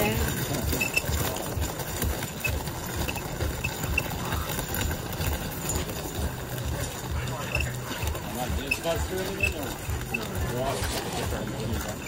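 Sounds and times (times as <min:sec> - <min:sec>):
footsteps on gravel: 0:00.0 - 0:12.0
wheelchair rolling over gravel: 0:00.0 - 0:12.0.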